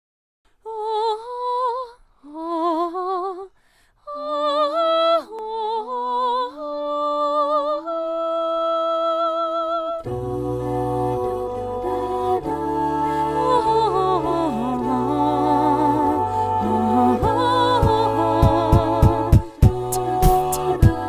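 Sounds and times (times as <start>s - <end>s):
a cappella group singing: 4.1s - 21.0s.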